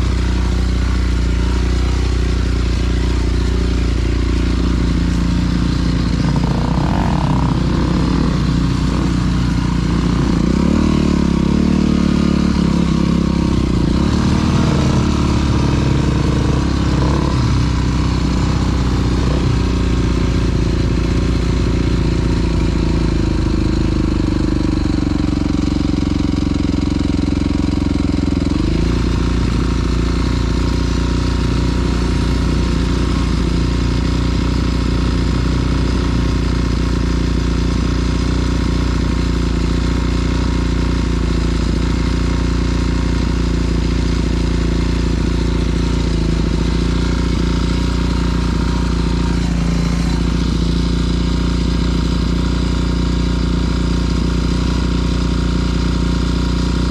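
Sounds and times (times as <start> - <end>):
dirt bike engine revving: 0.0 - 23.7, 24.7 - 56.9.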